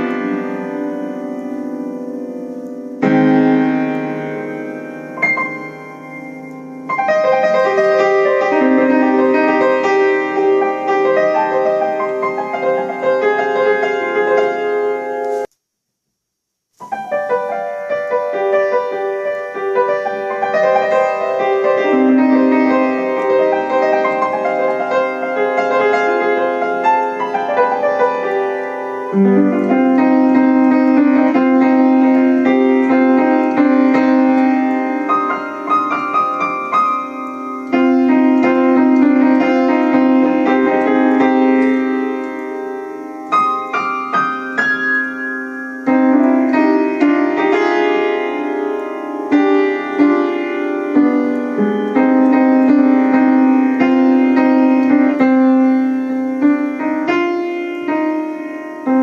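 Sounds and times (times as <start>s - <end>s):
slowed piano piece: 0.0s - 15.6s, 16.8s - 59.0s.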